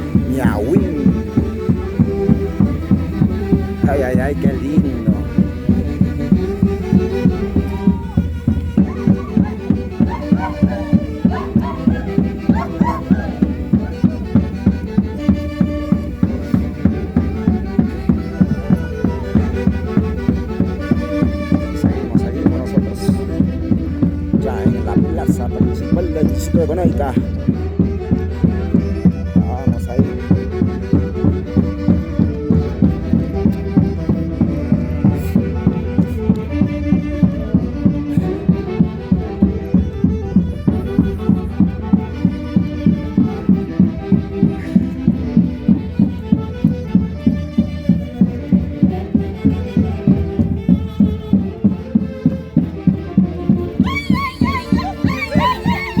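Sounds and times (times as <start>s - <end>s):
held melody notes: 0.0s - 37.2s, 38.0s - 56.0s
steady drumbeat: 0.0s - 56.0s
violin: 0.0s - 56.0s
wind instruments: 0.0s - 56.0s.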